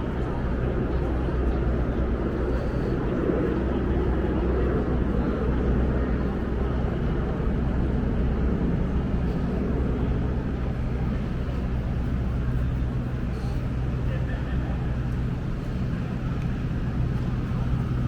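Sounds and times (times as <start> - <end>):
low city hum: 0.0 - 18.0.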